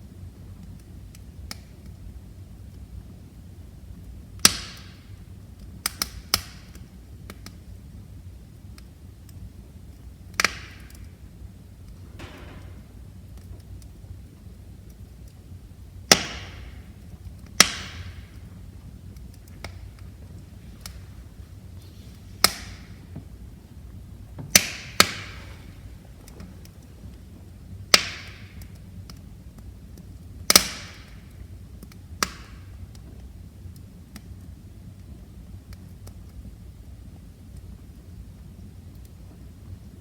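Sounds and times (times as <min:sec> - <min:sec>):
low rumble of flames: 0:00.0 - 0:40.0
wood fire pops and snaps: 0:00.0 - 0:40.0.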